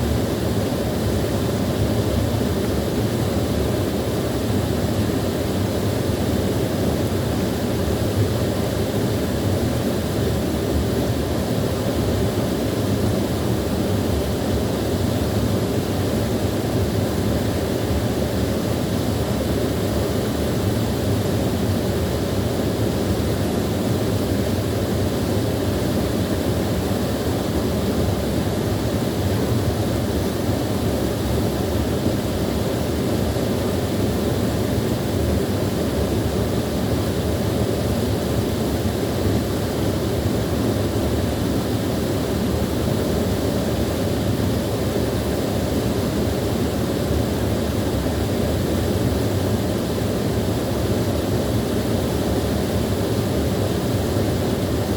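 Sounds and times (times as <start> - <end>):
small waterfall running: 0.0 - 54.9.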